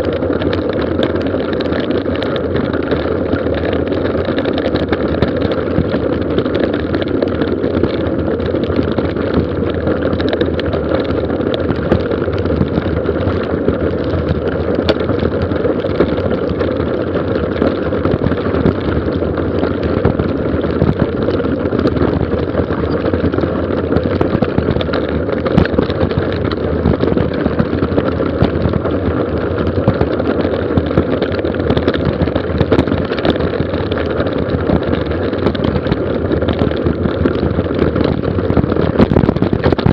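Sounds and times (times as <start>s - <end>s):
gravel and bike rattles: 0.0s - 39.9s
wind and tyre noise: 0.0s - 39.9s.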